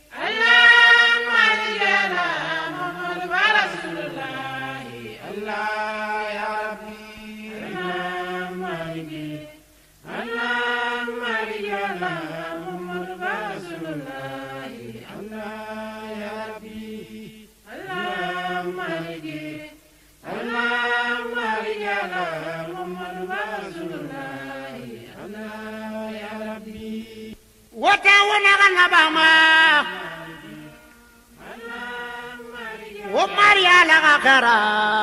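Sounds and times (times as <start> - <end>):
devotional chanting: 0.0 - 35.0.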